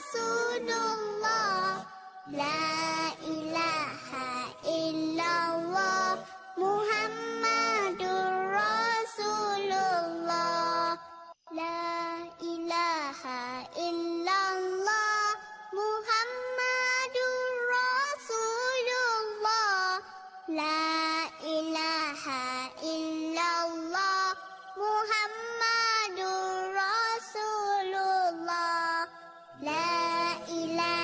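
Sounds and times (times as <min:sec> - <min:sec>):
child singing: 0:00.0 - 0:31.0.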